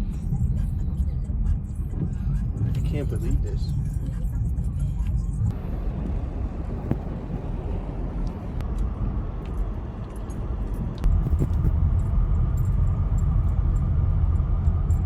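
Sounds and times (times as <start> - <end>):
car rumbling: 0.0 - 15.0.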